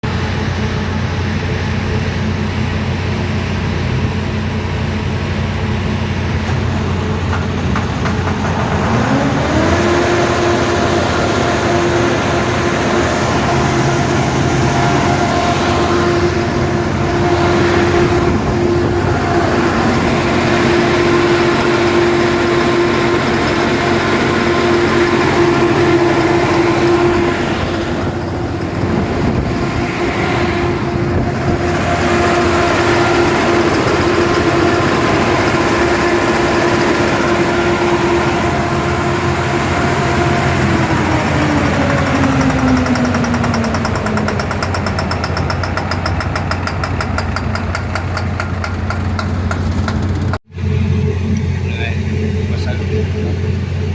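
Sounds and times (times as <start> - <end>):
diesel engine knocking: 0.0 - 50.6.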